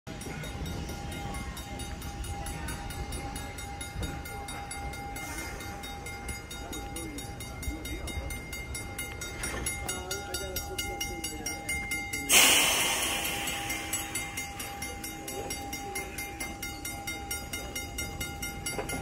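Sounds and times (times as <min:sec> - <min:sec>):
thin steady tone: 0:00.1 - 0:19.0
train rumbling: 0:00.1 - 0:19.0.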